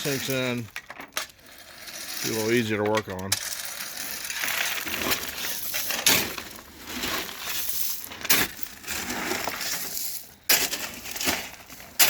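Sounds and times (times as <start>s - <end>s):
gravel crunching and rattling: 0.0s - 12.0s.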